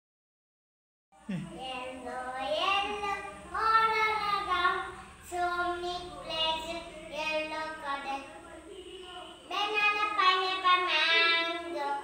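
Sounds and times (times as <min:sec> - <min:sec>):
young child singing: 0:01.3 - 0:12.0.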